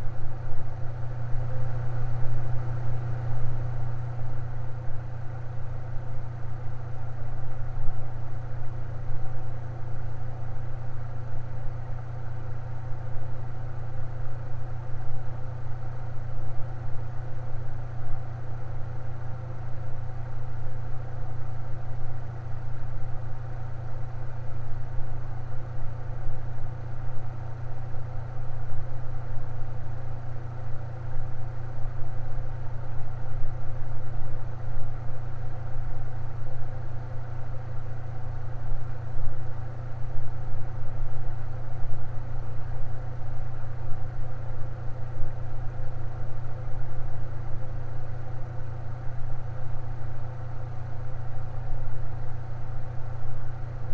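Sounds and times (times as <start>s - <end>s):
electric fan humming: 0.0s - 53.9s.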